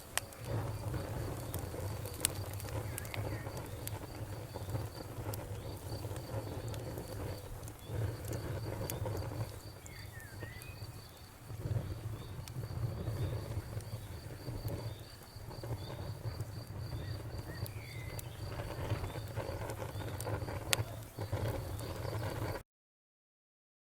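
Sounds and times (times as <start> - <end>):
wood fire crackling: 0.0 - 22.6.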